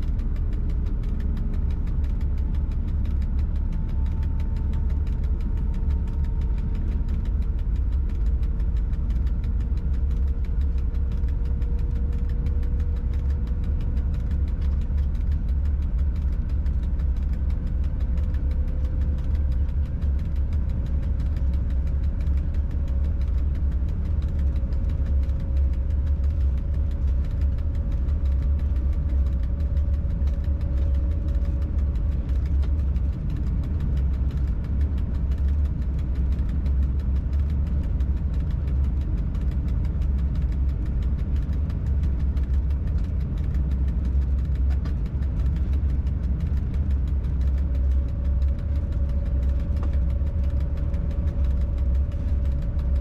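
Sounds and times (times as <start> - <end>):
faint whine: 0.0 - 53.0.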